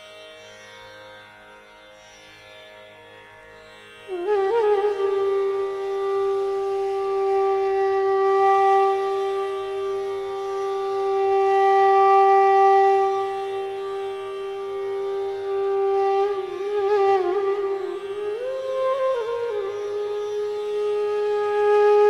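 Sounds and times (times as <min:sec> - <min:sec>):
wind instrument music: 0:04.1 - 0:22.0.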